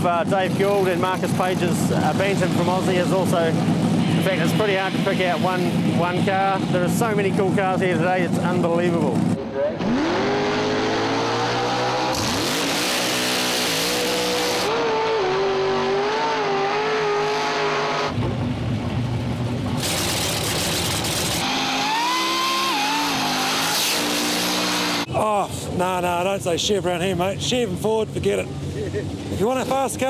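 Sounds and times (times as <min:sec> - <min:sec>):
drag car engines revving: 0:00.0 - 0:25.1.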